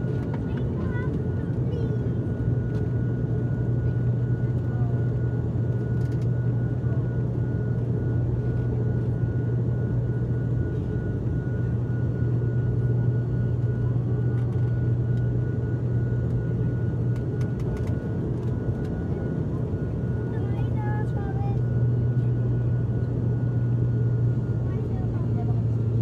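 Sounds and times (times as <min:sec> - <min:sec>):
propeller plane cabin drone: 0:00.0 - 0:26.0.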